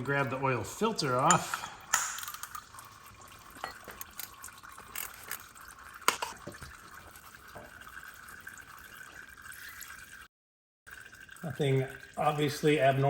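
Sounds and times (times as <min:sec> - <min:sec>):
oil trickling into a drain pan: 0:00.0 - 0:10.3, 0:10.9 - 0:13.0.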